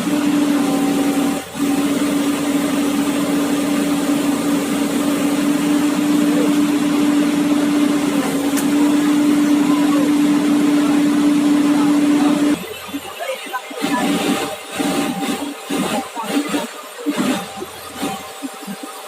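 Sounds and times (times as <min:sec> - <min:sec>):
excavator engine humming: 0:00.0 - 0:19.0.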